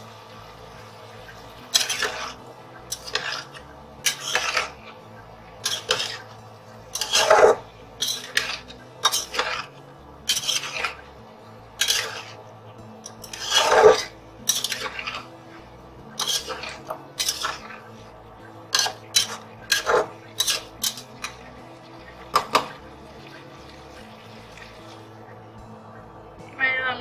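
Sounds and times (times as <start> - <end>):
spatula scraping metal pan: 1.6 - 5.0, 5.6 - 11.2, 11.8 - 25.1.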